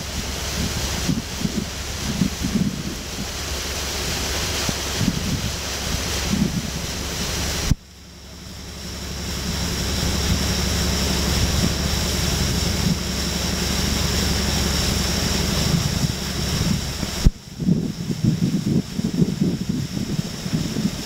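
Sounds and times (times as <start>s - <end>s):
low rumble: 0.0s - 21.0s
wind noise on microphone: 0.0s - 21.0s.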